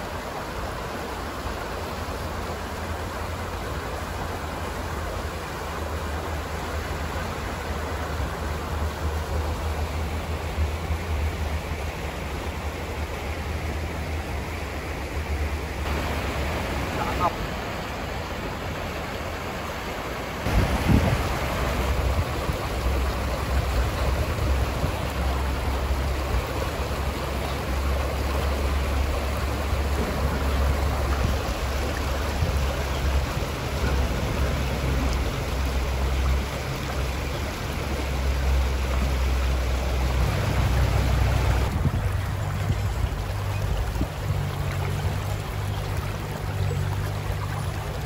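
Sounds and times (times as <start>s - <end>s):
water rushing over rocks: 0.0s - 48.0s.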